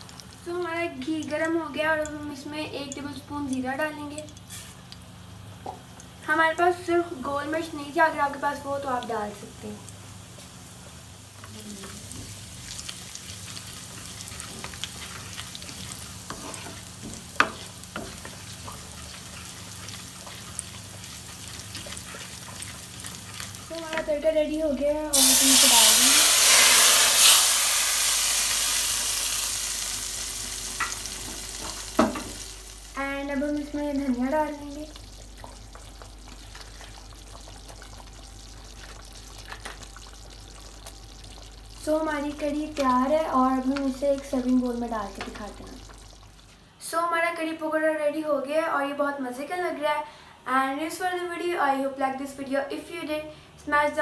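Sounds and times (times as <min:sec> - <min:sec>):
pot simmering with small pops: 0:00.0 - 0:06.9, 0:08.6 - 0:24.2, 0:25.1 - 0:46.6
seeds sizzling in hot oil: 0:00.0 - 0:46.6.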